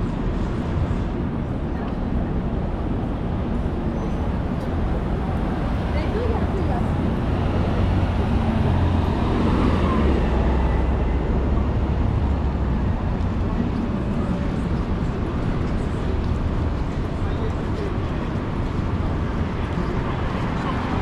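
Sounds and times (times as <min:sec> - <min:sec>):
traffic engine rumble: 0:00.0 - 0:21.0.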